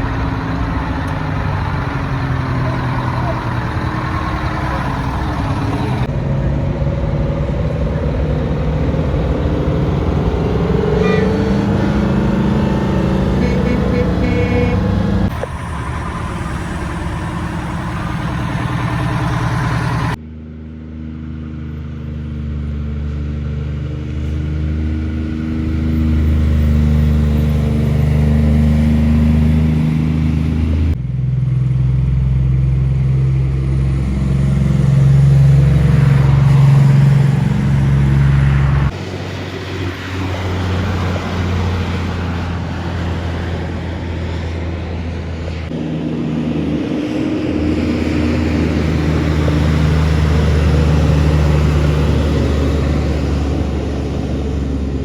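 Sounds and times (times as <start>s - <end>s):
truck diesel engines running: 0.0s - 20.2s, 21.0s - 55.0s.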